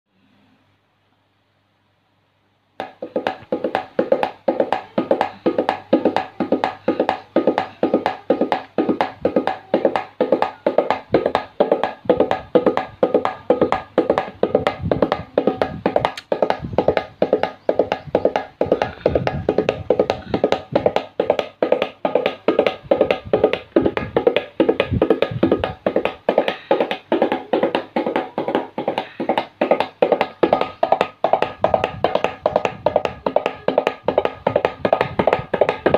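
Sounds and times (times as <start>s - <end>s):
tabla ringing strokes: 2.8s - 35.9s.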